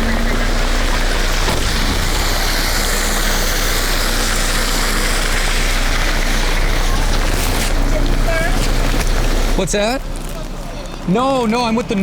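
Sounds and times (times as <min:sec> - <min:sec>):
rain: 0:00.0 - 0:12.0.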